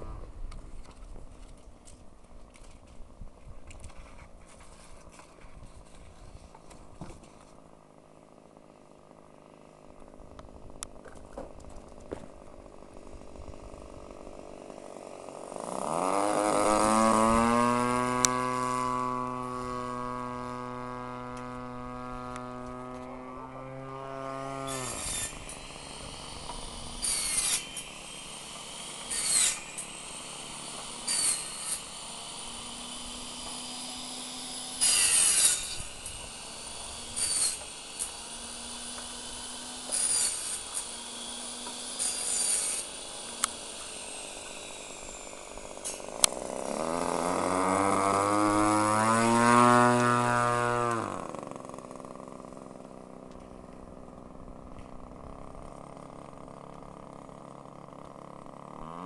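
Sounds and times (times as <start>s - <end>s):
model plane engine buzzing: 3.4s - 59.0s.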